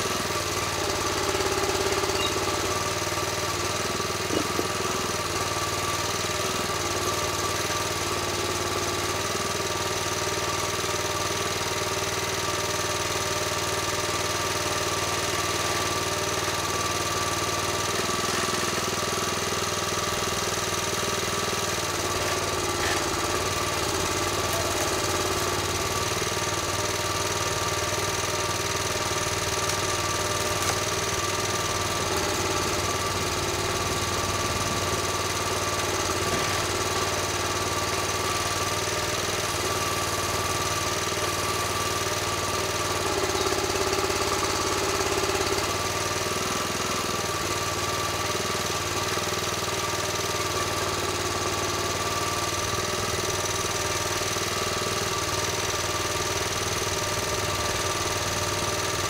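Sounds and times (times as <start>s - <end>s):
forest machine engine running: 0.0s - 59.0s.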